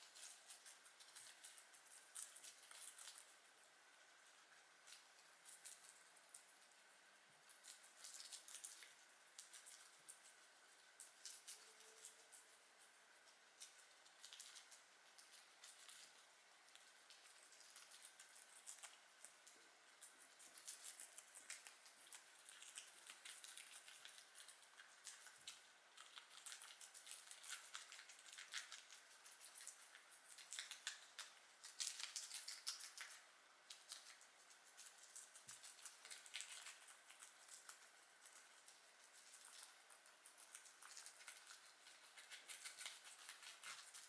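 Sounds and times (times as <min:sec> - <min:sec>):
guinea pigs chewing vegetables: 0:00.0 - 0:44.0.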